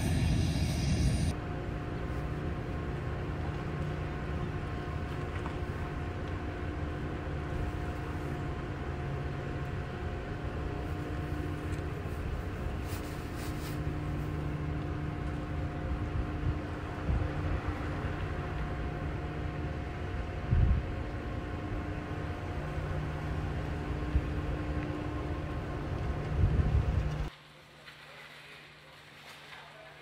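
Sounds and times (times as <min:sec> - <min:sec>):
aircraft drone in flight: 0:00.0 - 0:29.3.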